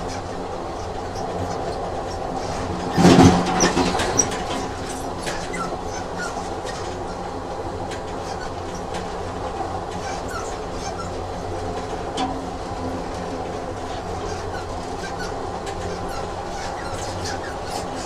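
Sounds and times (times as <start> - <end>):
train rumbling on rails: 0.0 - 18.0
wheels squeaking: 0.0 - 18.0.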